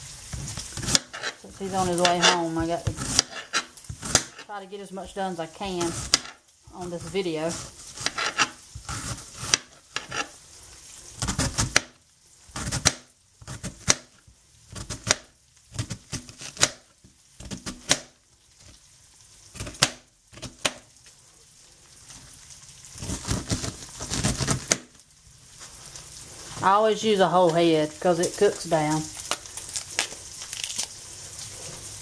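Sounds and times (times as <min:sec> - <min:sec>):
bacon and onions sizzling: 0:00.0 - 0:32.0.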